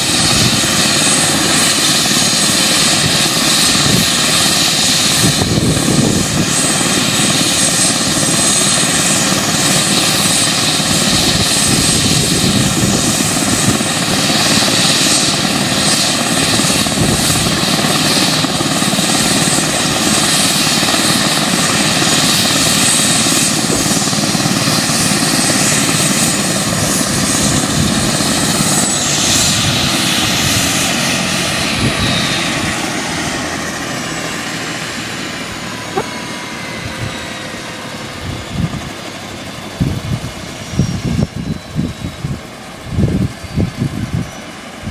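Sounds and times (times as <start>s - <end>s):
helicopter rotor running: 0.0s - 44.9s
high turbine whine: 0.0s - 44.9s.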